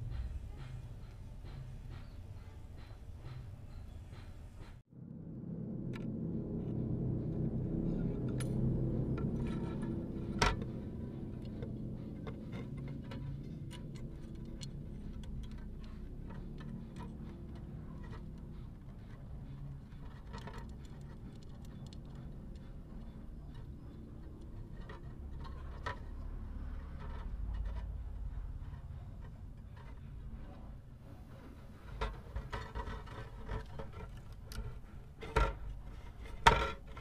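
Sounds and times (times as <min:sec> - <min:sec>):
low steady rumble: 0:00.0 - 0:37.0.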